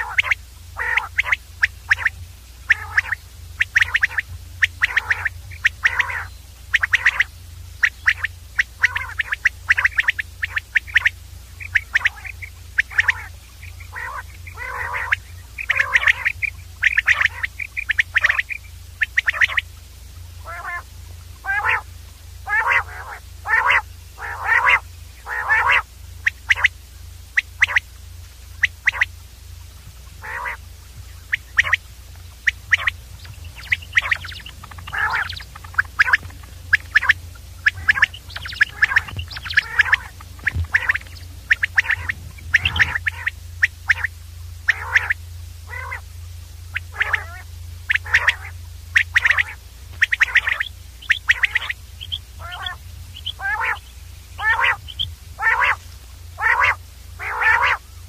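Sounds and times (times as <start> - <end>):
quail calling: 0.0 - 58.0
steady low hum: 0.0 - 58.0.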